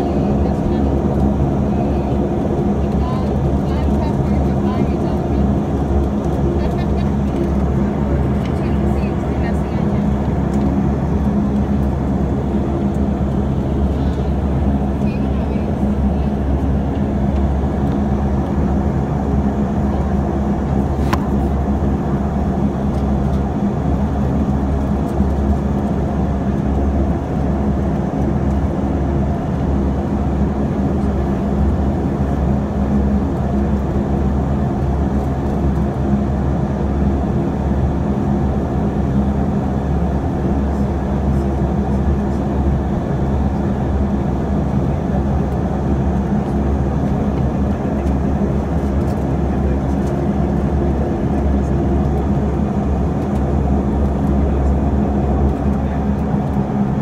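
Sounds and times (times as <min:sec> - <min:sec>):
turboprop propeller drone in cabin: 0:00.0 - 0:57.0.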